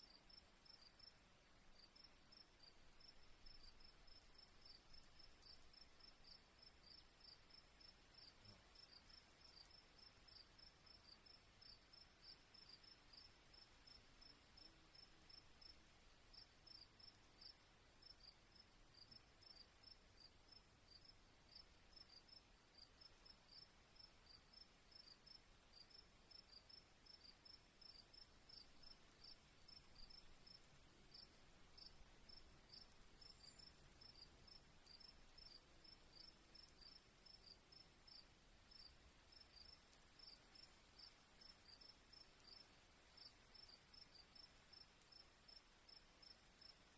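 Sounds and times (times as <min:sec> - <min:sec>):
crickets trilling and chirping: 0:00.1 - 0:01.2, 0:01.8 - 0:46.9.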